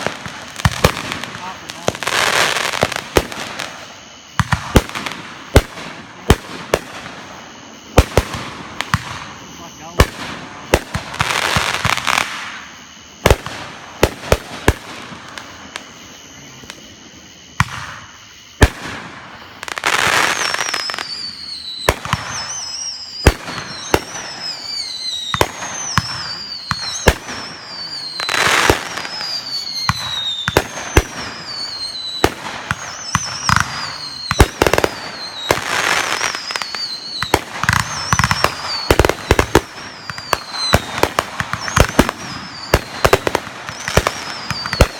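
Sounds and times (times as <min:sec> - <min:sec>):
falling firework whistles: 0:00.0 - 0:44.9
fireworks bangs: 0:00.0 - 0:44.9
fireworks crackling: 0:00.0 - 0:44.9.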